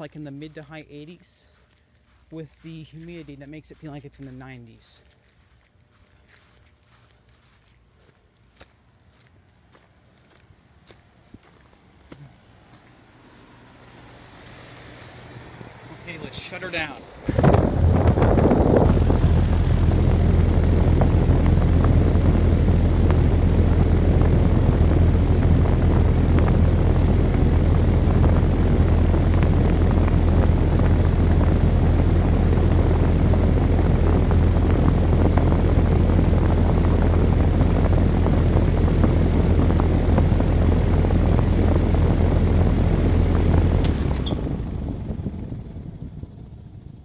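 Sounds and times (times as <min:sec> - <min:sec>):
compressor humming: 0:00.0 - 0:47.0
condenser fan: 0:00.0 - 0:47.0.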